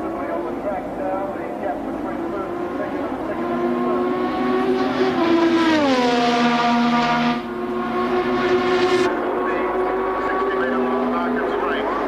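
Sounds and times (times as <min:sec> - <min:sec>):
race car engine high revs: 0:01.9 - 0:12.0.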